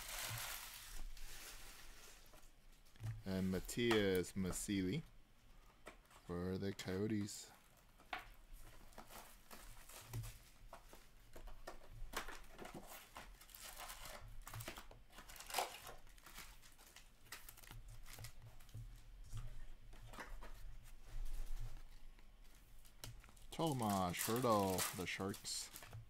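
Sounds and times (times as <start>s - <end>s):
cards and wrappers rustling: 0.0s - 5.0s, 5.9s - 26.0s.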